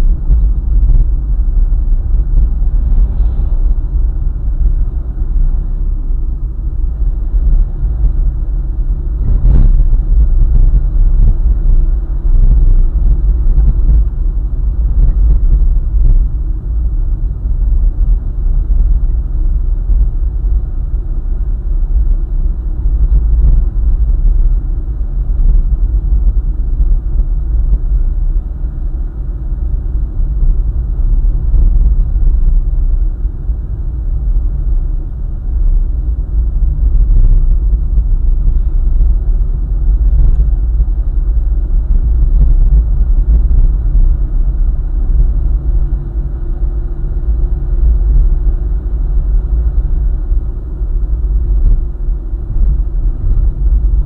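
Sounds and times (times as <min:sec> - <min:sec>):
car engine: 0:00.0 - 0:54.0
faint steady hum: 0:00.0 - 0:54.0
tyres rumbling on road: 0:00.0 - 0:54.0.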